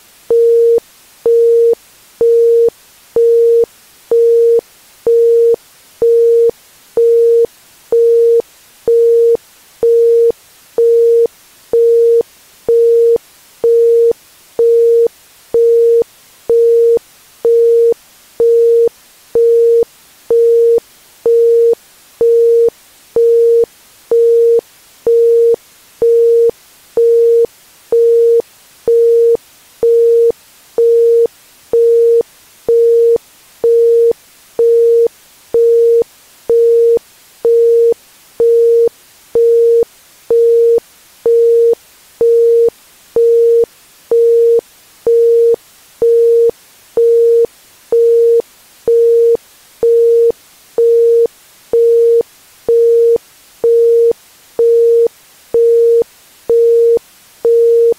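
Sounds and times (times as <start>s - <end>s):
faint background hiss: 0.0s - 57.9s.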